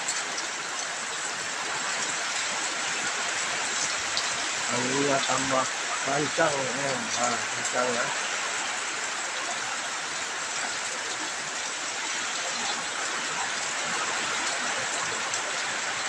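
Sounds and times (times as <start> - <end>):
heavy rain in strong wind: 0.0 - 16.0.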